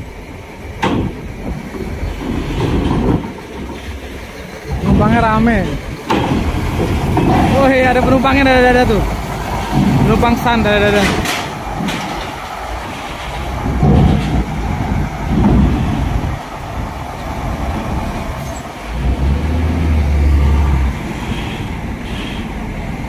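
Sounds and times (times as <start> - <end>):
deep low rumble: 0.0 - 21.2
bus engine running low: 0.0 - 23.0
tyres clanking over metal plates: 0.7 - 19.5.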